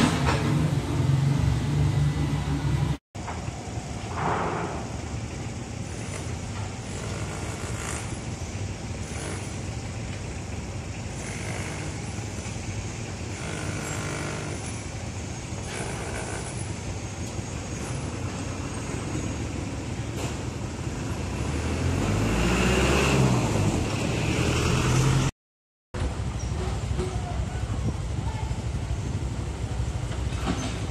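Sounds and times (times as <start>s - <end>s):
engine rumbling low: 0.0s - 25.3s, 26.0s - 30.9s
roadworks noise: 0.0s - 25.3s, 26.0s - 30.9s
street traffic: 0.0s - 25.4s, 26.0s - 30.9s.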